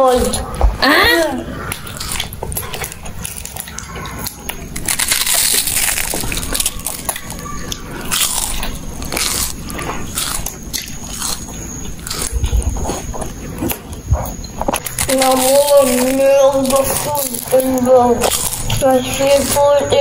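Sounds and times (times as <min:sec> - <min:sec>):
children crunching fried food: 0:00.0 - 0:20.0.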